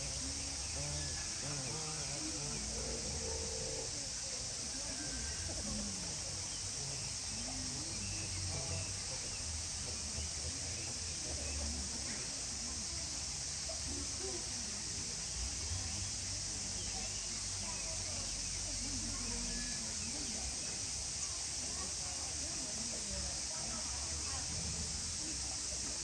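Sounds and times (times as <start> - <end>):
distant murmur of voices: 0.0 - 26.0
insects droning: 0.0 - 26.0.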